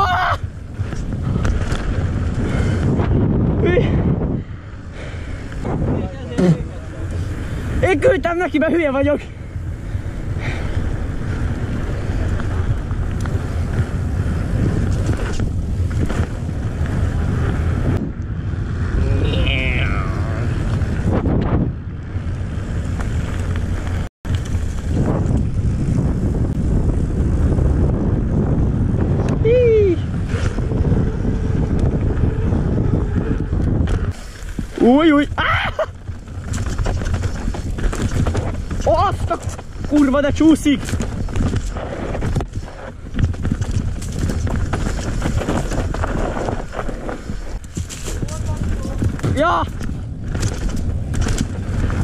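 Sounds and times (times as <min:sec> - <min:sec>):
bike tyre rumble: 0:00.0 - 0:52.0
wind buffeting microphone: 0:00.0 - 0:52.0.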